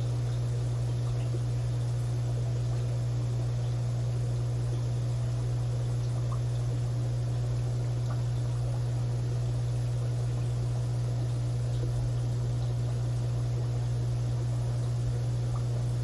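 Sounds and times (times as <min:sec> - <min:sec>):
aquarium equipment hum: 0:00.0 - 0:16.0.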